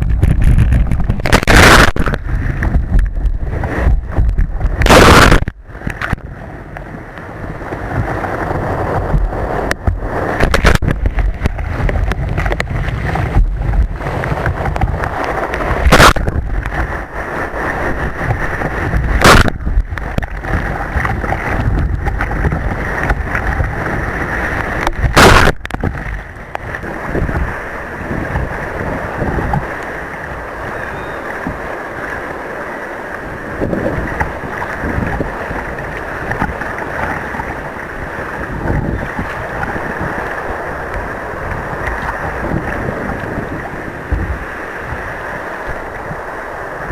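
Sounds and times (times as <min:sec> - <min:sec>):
surf and rushing water: 0:00.0 - 0:46.9
wind buffeting microphone: 0:00.0 - 0:46.9.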